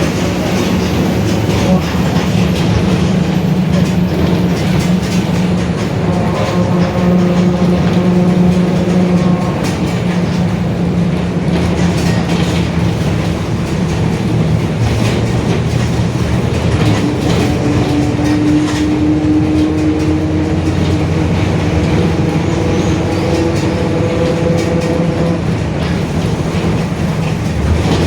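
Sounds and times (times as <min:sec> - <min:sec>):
diesel bus engine running: 0:00.0 - 0:28.0
road and body noise: 0:00.0 - 0:28.0.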